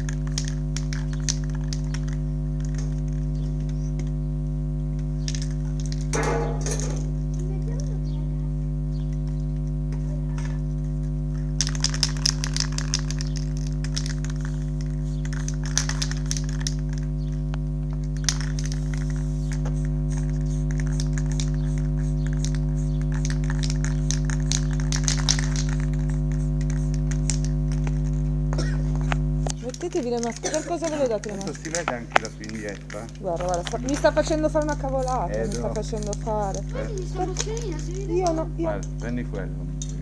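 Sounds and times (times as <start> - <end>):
spray cans rattling: 0.0 - 3.2, 5.3 - 8.0, 11.6 - 17.0, 18.1 - 39.0
steady low hum: 0.0 - 40.0.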